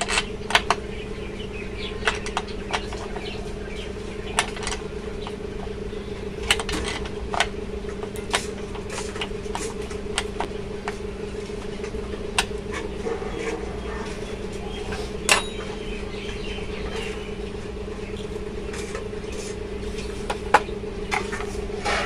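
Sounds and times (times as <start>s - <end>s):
clicks and knocks of handling: 0.0s - 0.9s, 1.8s - 5.8s, 6.4s - 22.0s
low hum: 0.0s - 22.0s.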